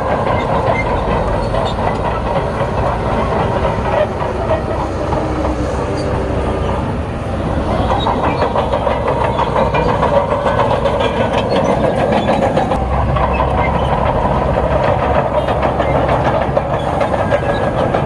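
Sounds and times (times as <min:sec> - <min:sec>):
diesel engine under load: 0:00.0 - 0:18.0
steel tracks clanking: 0:00.0 - 0:18.0.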